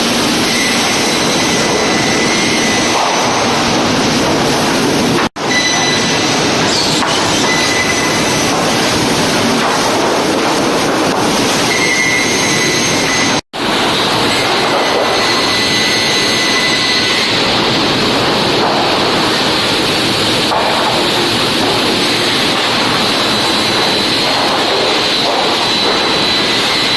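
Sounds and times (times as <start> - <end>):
sawmill machinery din: 0.0 - 26.9.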